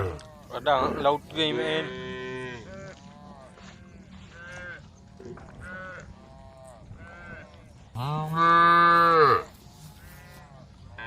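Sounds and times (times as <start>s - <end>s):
faint cattle mooing: 0.0s - 11.0s.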